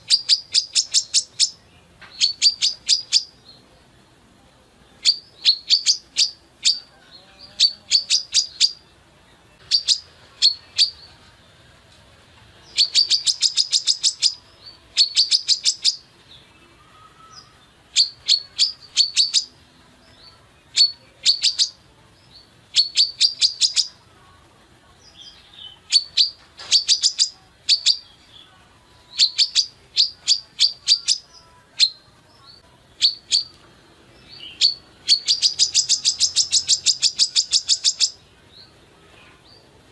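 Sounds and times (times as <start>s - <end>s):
sunbird chirping: 0.0s - 3.9s, 4.8s - 11.3s, 12.6s - 39.9s.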